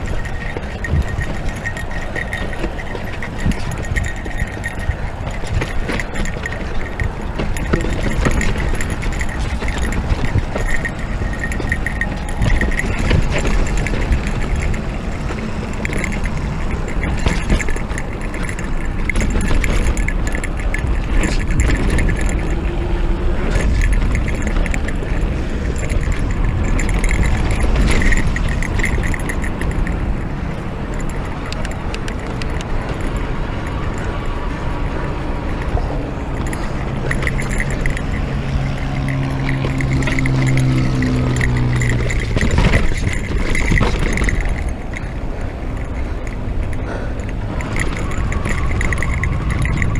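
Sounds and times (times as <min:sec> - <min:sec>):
tyre rumble on dirt trail: 0:00.0 - 0:30.2, 0:30.8 - 0:49.9
bike rattling and clicking: 0:00.0 - 0:49.9.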